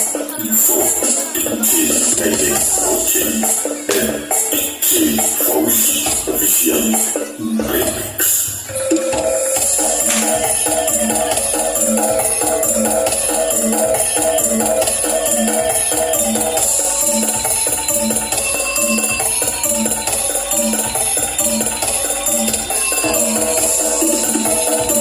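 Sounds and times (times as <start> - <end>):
dance music with steady beat: 0.0 - 25.0
jingling tambourine-like percussion: 0.0 - 25.0.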